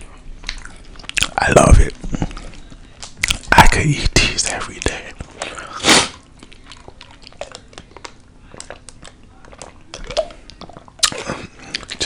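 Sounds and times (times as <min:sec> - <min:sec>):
person chewing food: 0:00.2 - 0:01.4, 0:02.0 - 0:03.6, 0:05.2 - 0:12.0.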